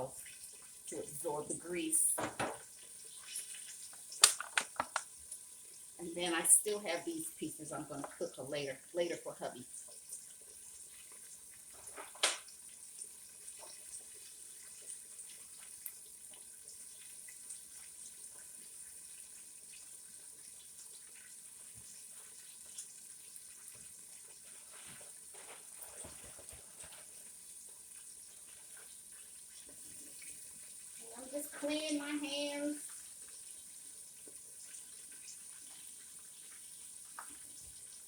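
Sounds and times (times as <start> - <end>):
chicken frying in hot oil: 0.0 - 38.0.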